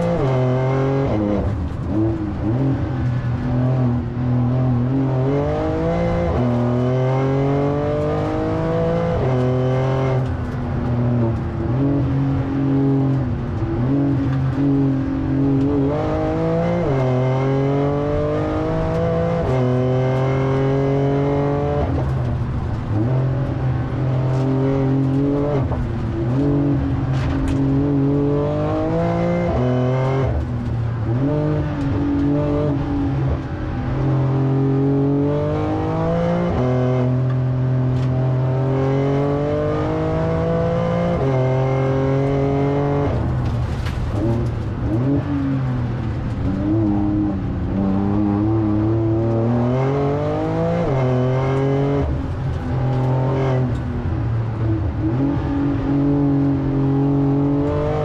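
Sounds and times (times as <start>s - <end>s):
car engine revving in cabin: 0.0s - 58.0s.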